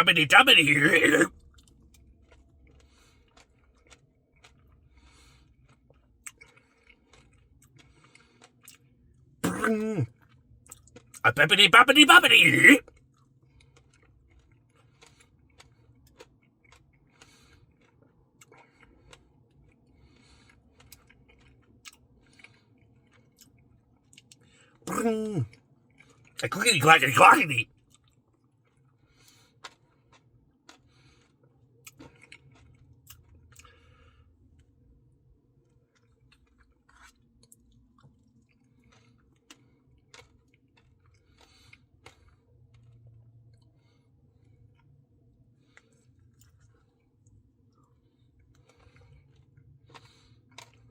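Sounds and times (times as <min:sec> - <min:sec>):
chewing soft ice cream: 0:00.0 - 0:50.9.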